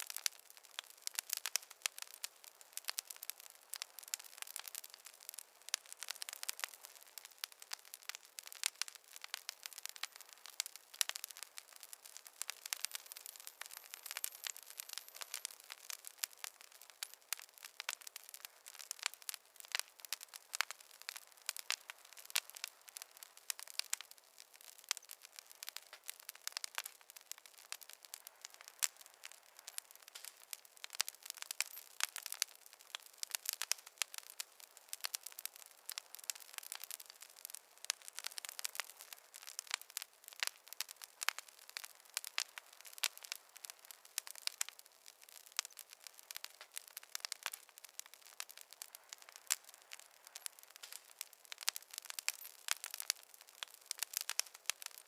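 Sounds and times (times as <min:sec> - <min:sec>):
faint hiss: 0:00.0 - 0:55.0
wood fire crackling and popping: 0:00.0 - 0:55.0.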